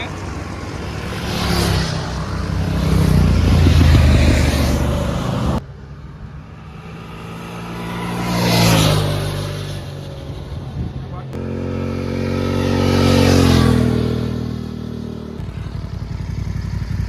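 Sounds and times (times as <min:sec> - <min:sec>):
motorcycles accelerating past: 0:00.0 - 0:05.6, 0:06.3 - 0:17.0.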